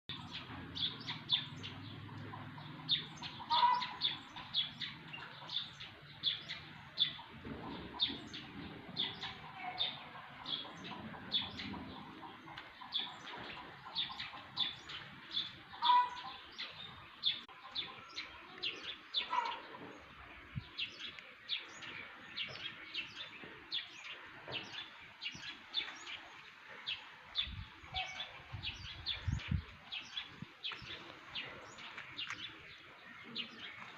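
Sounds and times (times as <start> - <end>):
lower louder bird calls: 0.1 - 33.9
small birds chirping: 0.1 - 33.9.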